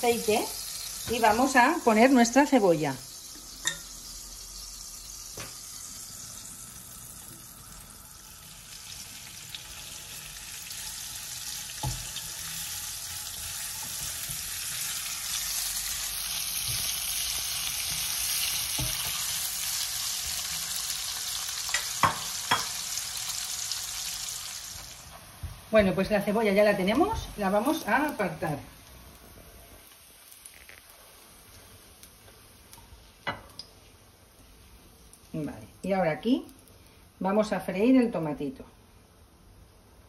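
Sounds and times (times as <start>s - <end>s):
onion sizzling in hot oil: 0.0s - 37.8s.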